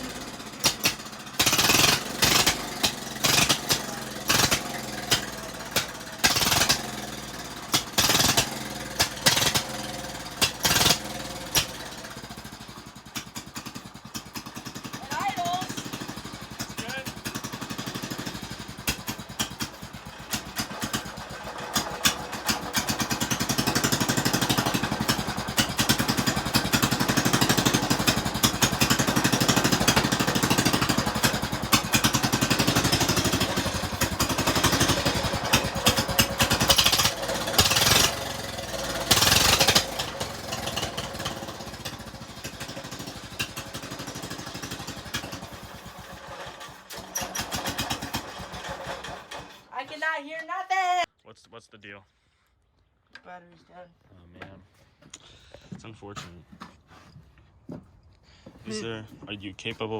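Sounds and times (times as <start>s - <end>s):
small tractor engine running: 0.0s - 49.9s, 58.7s - 59.0s.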